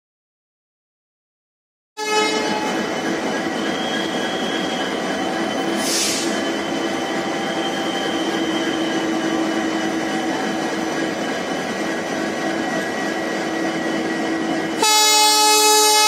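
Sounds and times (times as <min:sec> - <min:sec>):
locomotive humming at standstill: 0:02.0 - 0:16.0.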